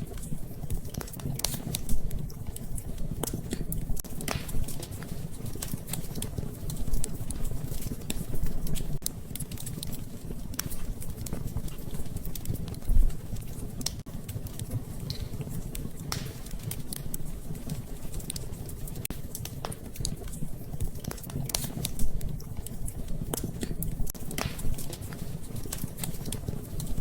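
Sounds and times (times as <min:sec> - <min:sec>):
low rumble of flames: 0:00.0 - 0:27.0
sharp pops of fire: 0:00.0 - 0:27.0
wood fire crackling: 0:00.0 - 0:27.0.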